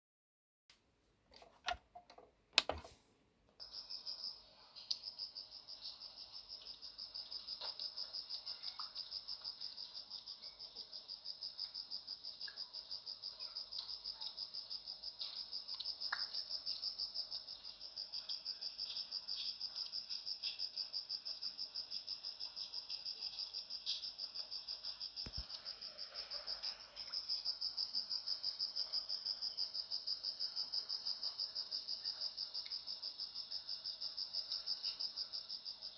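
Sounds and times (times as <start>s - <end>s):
insects chirping: 3.6s - 35.9s.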